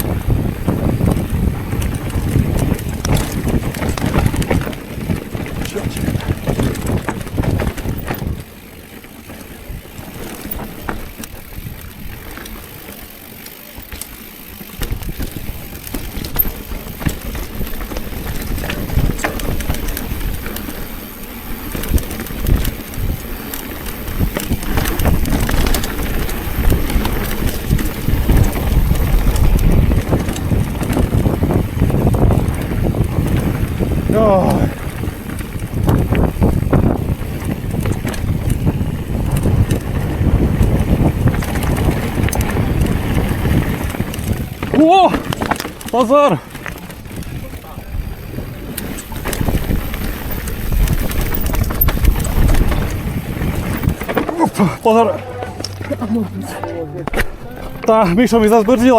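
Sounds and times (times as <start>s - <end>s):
wind buffeting microphone: 0.0s - 13.0s, 14.3s - 58.9s
bicycle rattling over rough ground: 0.0s - 58.9s.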